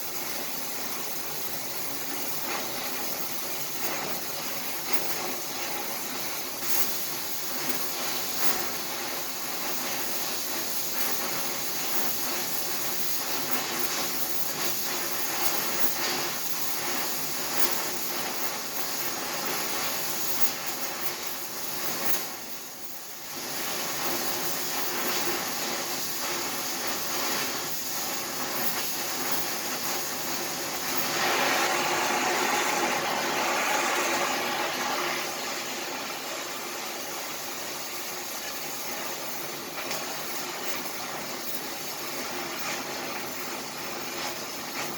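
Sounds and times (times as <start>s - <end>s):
arc welding crackling sizzle: 0.0s - 44.9s.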